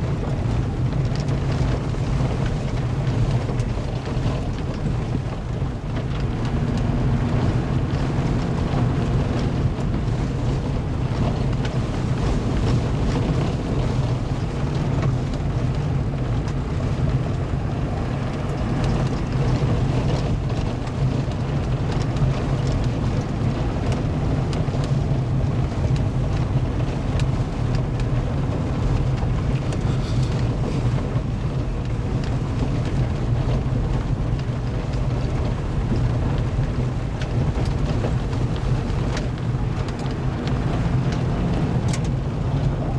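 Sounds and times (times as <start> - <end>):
gravel crackling under tyres: 0.0 - 42.9
vehicle engine and tyre drone: 0.0 - 42.9.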